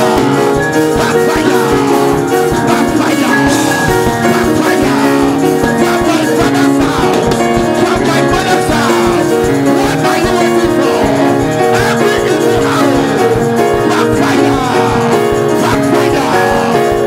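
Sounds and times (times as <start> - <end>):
music with sustained notes: 0.0 - 17.0
steady beat: 0.0 - 17.0.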